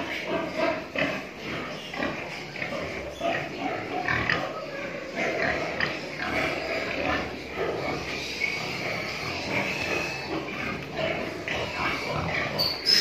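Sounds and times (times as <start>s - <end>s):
pigs grunting: 0.0s - 13.0s.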